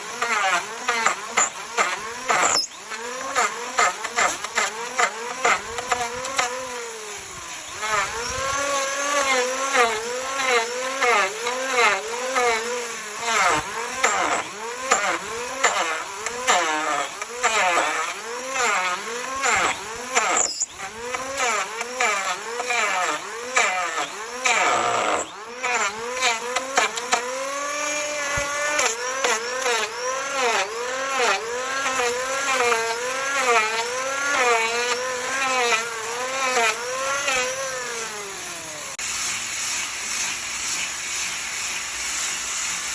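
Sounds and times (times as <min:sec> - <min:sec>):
power carving tool whining into wood: 0:00.0 - 0:42.9.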